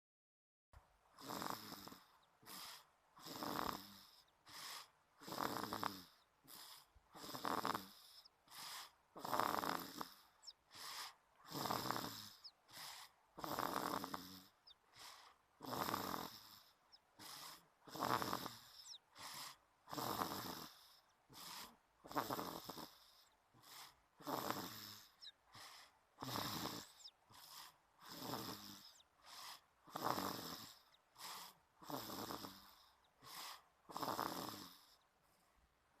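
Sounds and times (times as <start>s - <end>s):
person snoring: 1.2s - 35.0s.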